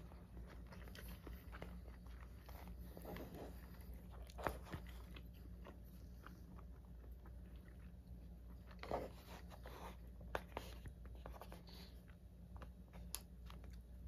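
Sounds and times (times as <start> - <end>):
soft wet chewing: 0.0 - 14.0.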